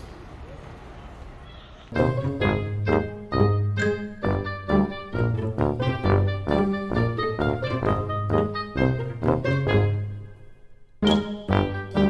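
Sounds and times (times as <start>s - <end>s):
upbeat jazzy music: 2.0s - 12.0s.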